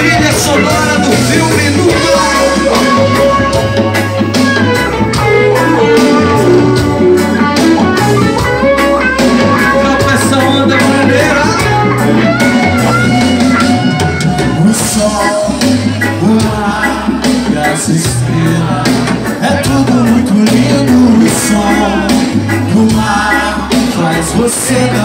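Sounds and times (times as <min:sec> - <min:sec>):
bass notes: 0:00.0 - 0:25.0
drum kit beat: 0:00.0 - 0:25.0
guitar melody: 0:00.0 - 0:25.0.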